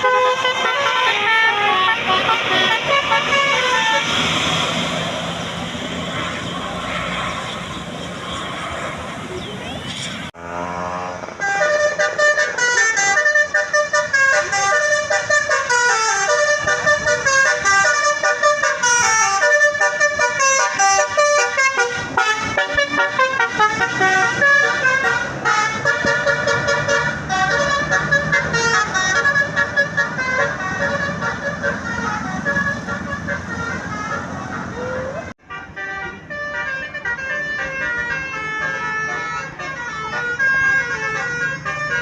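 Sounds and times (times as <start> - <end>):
multi-tone bus horn tune: 0.0 - 8.3, 10.3 - 42.0.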